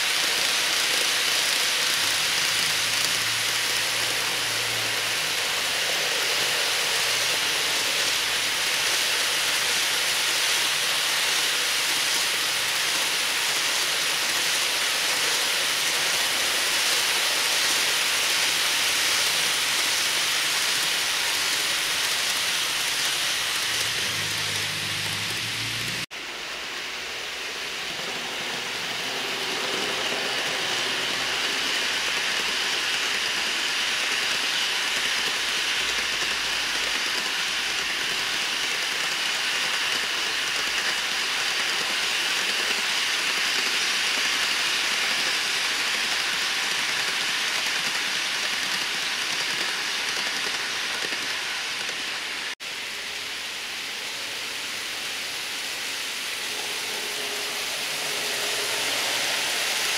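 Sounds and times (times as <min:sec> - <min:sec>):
model train wheels rolling on rails: 0:00.0 - 0:59.9.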